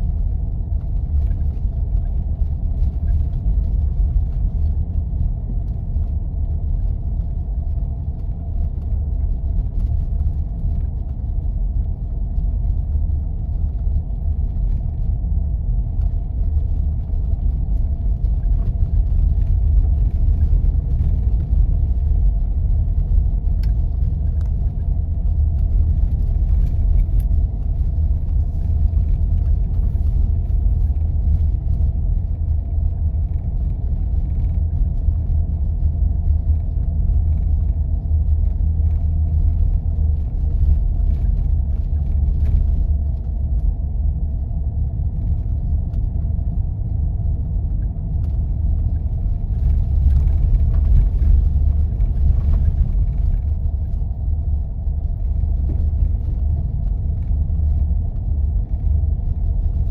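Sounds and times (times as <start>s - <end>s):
vehicle driving on snow: 0.0s - 59.9s.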